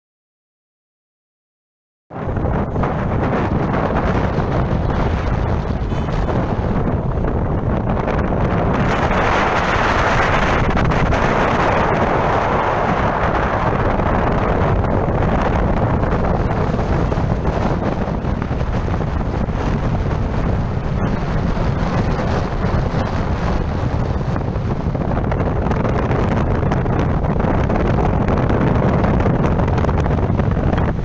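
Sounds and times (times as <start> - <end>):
wind buffeting microphone: 2.1 - 31.0.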